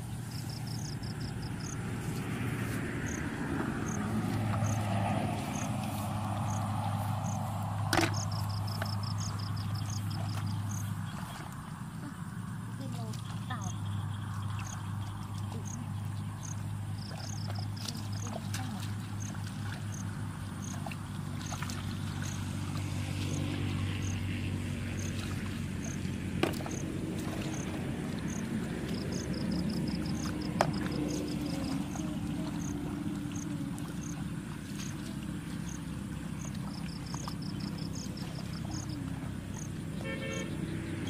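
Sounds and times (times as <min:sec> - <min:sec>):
low engine drone: 0:00.0 - 0:41.0.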